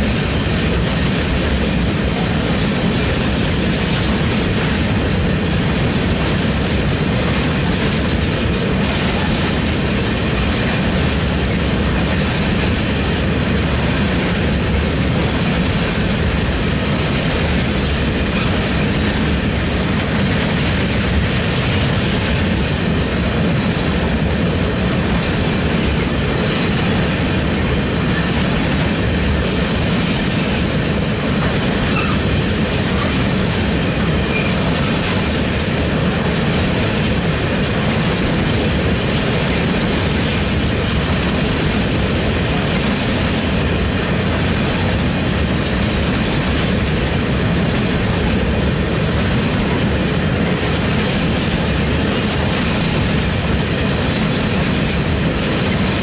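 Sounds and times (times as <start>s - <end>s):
steel train wheels on rails: 0.0s - 56.0s.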